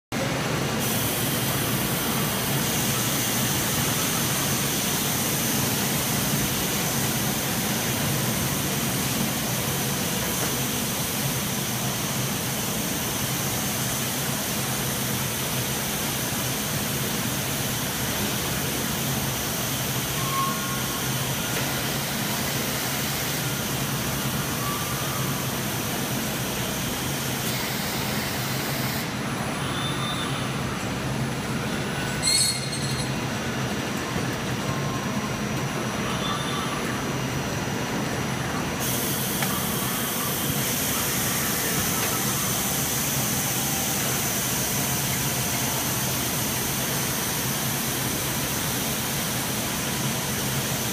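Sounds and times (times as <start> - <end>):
robot arm and conveyor machinery: 0.6 - 50.9.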